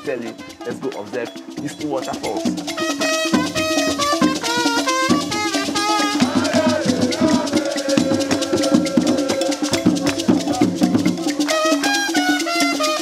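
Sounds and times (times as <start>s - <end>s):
background music with percussion: 0.0s - 13.0s.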